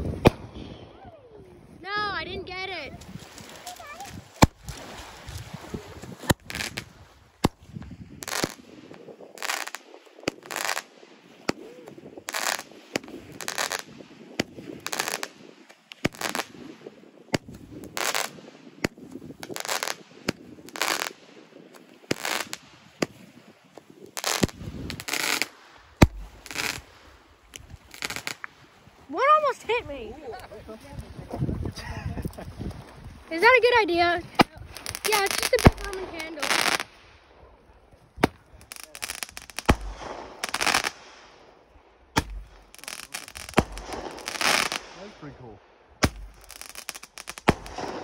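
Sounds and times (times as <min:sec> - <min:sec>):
firework cracks: 0:00.0 - 0:00.9, 0:03.0 - 0:28.8, 0:34.3 - 0:37.3, 0:38.2 - 0:45.4, 0:46.0 - 0:48.0
firework blasts: 0:00.0 - 0:01.0, 0:02.9 - 0:29.6, 0:33.4 - 0:48.0.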